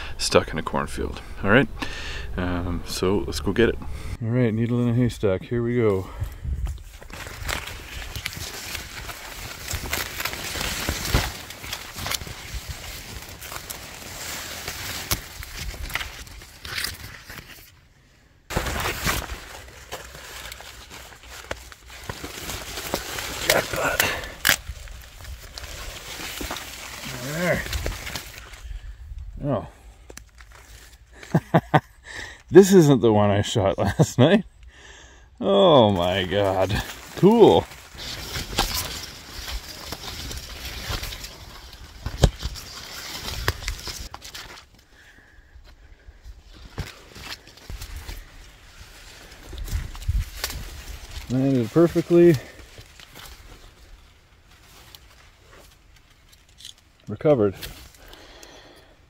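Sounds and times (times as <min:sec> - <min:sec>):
rustling corn plants: 0:02.3 - 0:31.9, 0:35.4 - 0:59.0
footsteps on dry corn stalks: 0:05.6 - 0:17.8, 0:18.5 - 0:31.6, 0:35.6 - 0:59.0.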